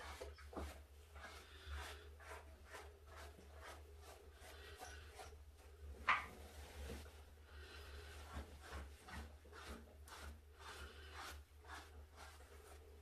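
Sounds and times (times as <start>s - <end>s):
brush strokes on cat fur: 0.0s - 13.0s.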